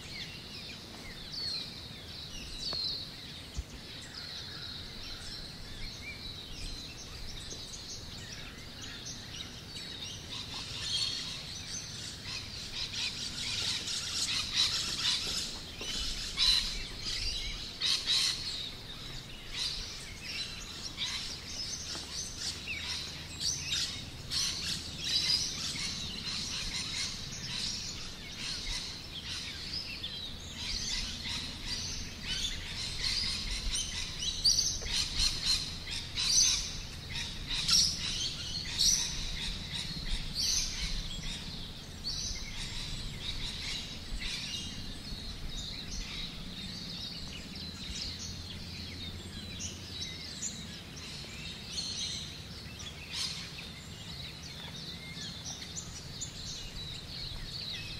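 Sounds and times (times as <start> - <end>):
birds chirping and calling: 0.0 - 57.9.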